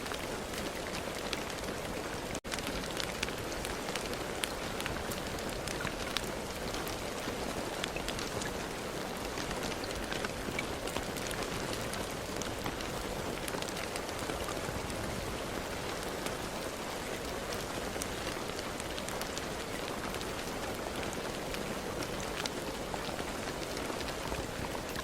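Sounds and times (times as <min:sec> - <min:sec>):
raindrops ticking: 0:00.0 - 0:25.0
steady rain hiss: 0:00.0 - 0:25.0.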